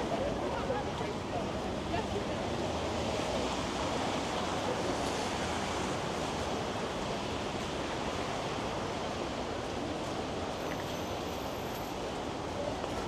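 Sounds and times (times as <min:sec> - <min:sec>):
city street traffic: 0:00.0 - 0:13.0
wind: 0:00.0 - 0:13.0.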